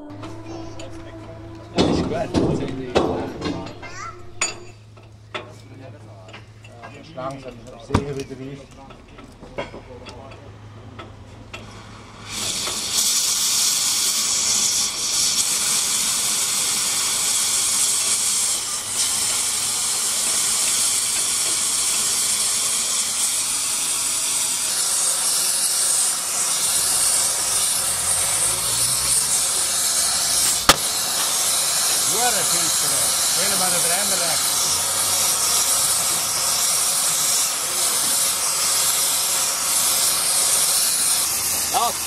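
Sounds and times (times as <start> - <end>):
gas torch hissing: 0.0 - 4.7, 11.5 - 42.0.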